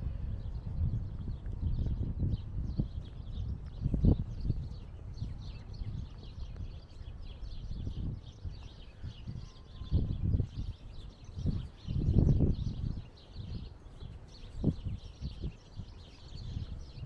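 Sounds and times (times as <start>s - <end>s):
small birds chirping: 0.0s - 17.0s
wind buffeting microphone: 0.0s - 17.0s.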